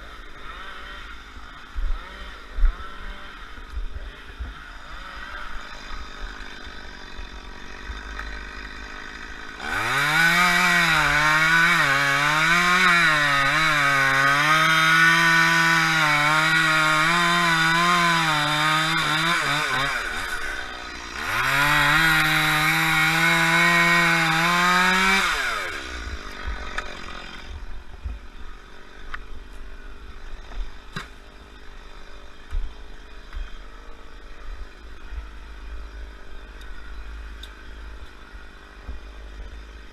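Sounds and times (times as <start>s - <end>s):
chainsaw revving: 0.0s - 32.3s.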